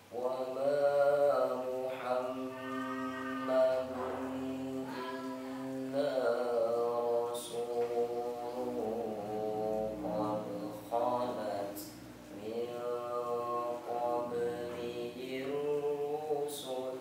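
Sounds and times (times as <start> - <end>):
boy reciting melodically: 0.0 - 17.0.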